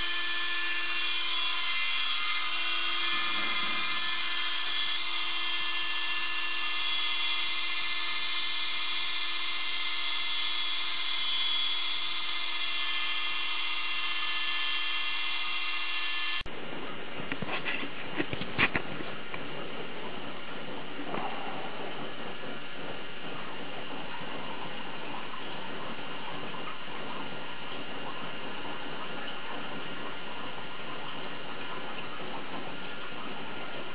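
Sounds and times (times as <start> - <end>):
router spindle whining: 0.0 - 33.9.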